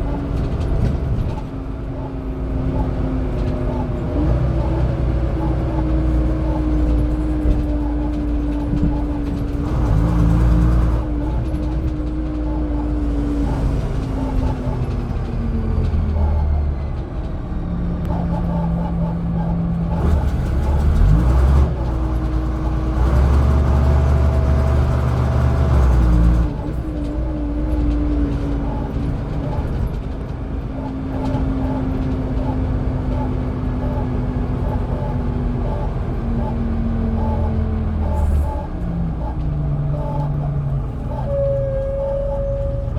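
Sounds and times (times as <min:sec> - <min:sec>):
bus engine rumbling: 0:00.0 - 0:42.9.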